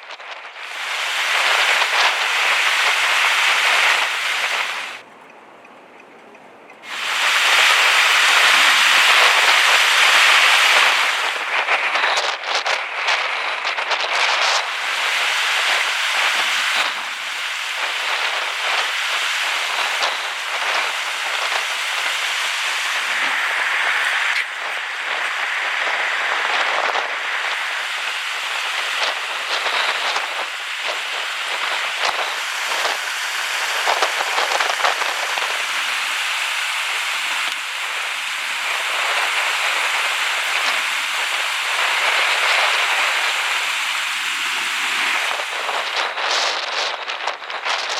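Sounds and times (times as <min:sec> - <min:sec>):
rain hissing: 0:00.0 - 0:05.0, 0:06.8 - 0:47.9
running water: 0:00.6 - 0:05.1, 0:06.8 - 0:47.9.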